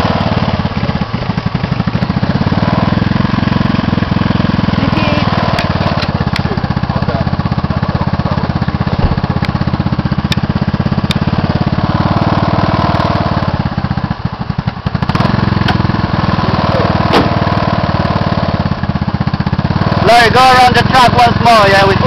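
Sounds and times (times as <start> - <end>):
buggy engine running: 0.0 - 22.0.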